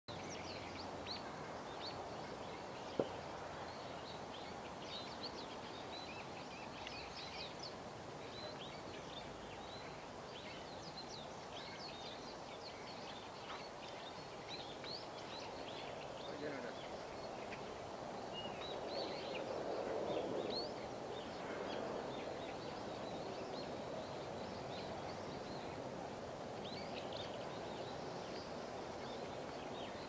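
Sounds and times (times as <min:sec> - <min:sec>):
small birds chirping: 0:00.1 - 0:30.0
steady background hiss: 0:00.1 - 0:30.0.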